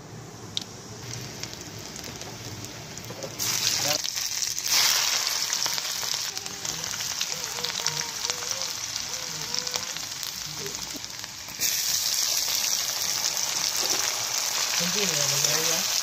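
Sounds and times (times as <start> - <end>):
vegetables sizzling in hot oil: 0.4 - 16.0.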